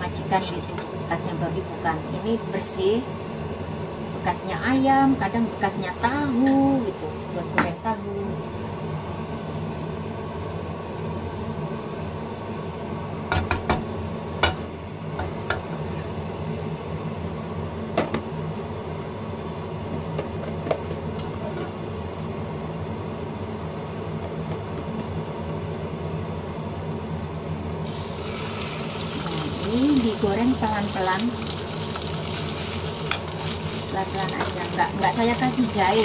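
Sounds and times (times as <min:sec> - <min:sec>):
kitchen fan motor hum: 0:00.0 - 0:36.0.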